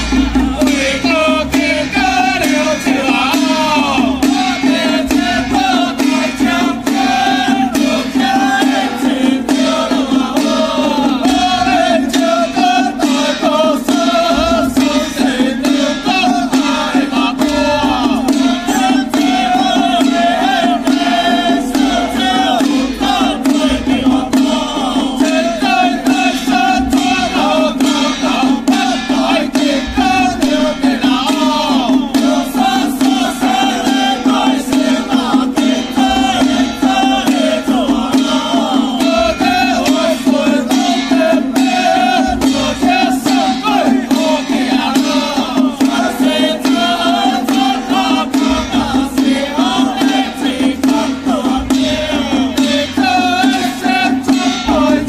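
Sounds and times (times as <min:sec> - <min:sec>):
frame drums beating rapidly: 0:00.0 - 0:55.0
group chanting in unison: 0:00.0 - 0:55.0.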